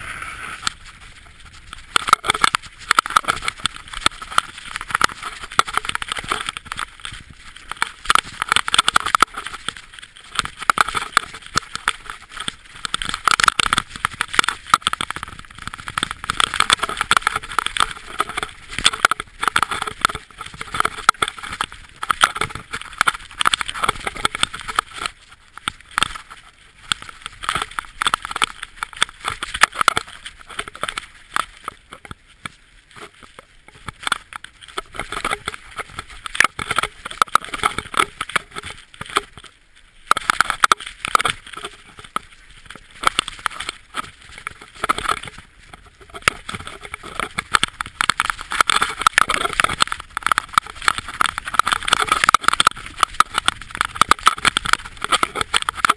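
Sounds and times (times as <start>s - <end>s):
bike clattering over stones: 0.6s - 55.9s.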